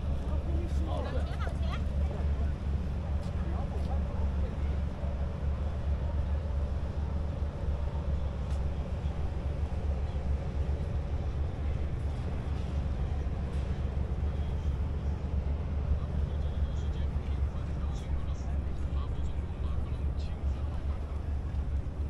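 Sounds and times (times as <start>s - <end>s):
city low rumble: 0.0s - 22.0s.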